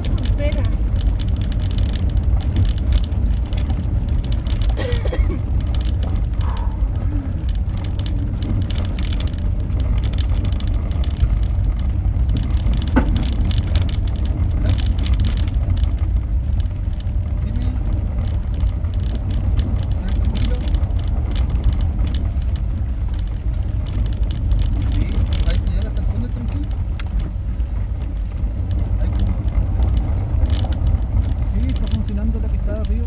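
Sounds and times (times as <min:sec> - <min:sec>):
car engine and tyres rumbling: 0:00.0 - 0:33.0
gravel clicks and knocks: 0:00.0 - 0:33.0.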